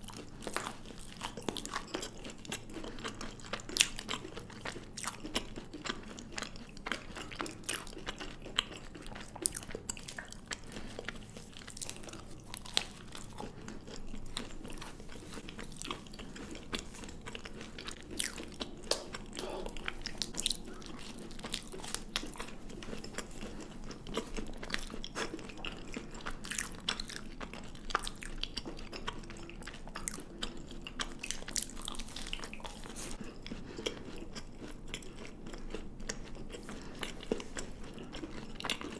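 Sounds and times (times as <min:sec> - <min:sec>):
chocolate crunching while chewed: 0:00.0 - 0:38.9.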